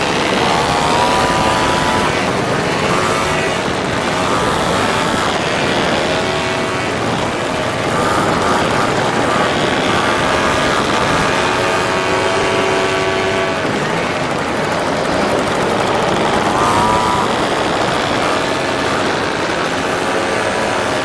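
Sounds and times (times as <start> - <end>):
moped engines revving: 0.0 - 21.0
steady rush of noise: 0.0 - 21.0.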